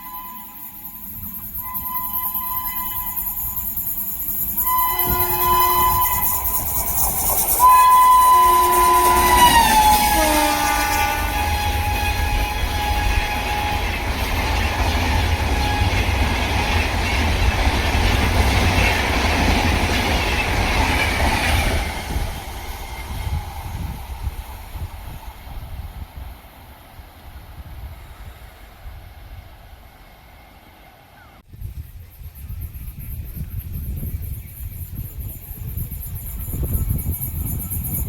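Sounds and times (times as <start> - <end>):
train passing at speed: 0.0 - 38.0.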